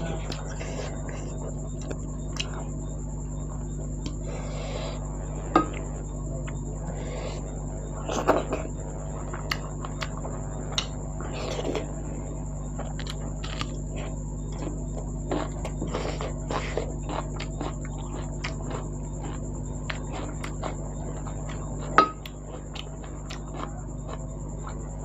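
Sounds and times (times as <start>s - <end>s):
wet chewing and mouth noises: 0.0s - 12.0s, 12.7s - 25.0s
steady electrical hum: 0.0s - 25.0s.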